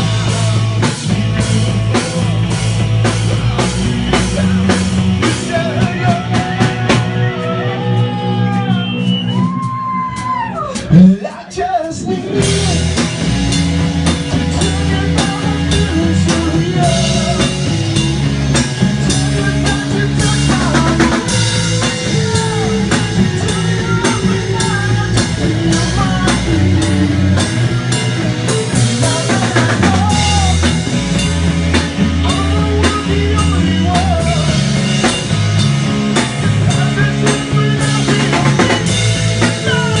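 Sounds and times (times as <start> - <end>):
drum kit beat: 0.0 - 40.0
held bass notes: 0.0 - 40.0.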